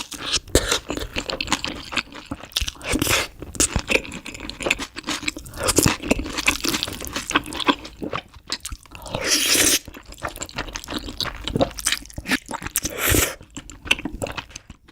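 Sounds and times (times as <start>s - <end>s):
crunching and wet chewing: 0.0s - 14.9s.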